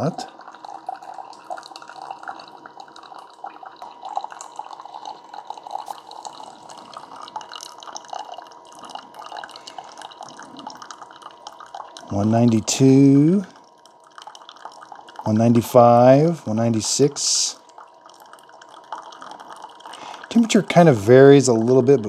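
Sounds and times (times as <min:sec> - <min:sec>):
coffee trickling into a mug: 0:00.0 - 0:22.0
faint pump hum: 0:00.0 - 0:22.0.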